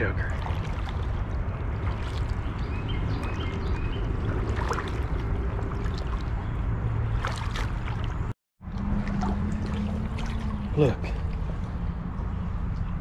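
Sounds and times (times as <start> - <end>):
water splashing around wading legs: 0.0 - 11.8.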